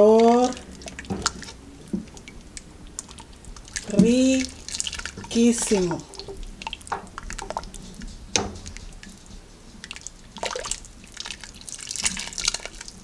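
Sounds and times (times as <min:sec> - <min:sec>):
broth splashing and dripping: 0:00.0 - 0:13.0
ladle scooping broth: 0:00.0 - 0:13.0.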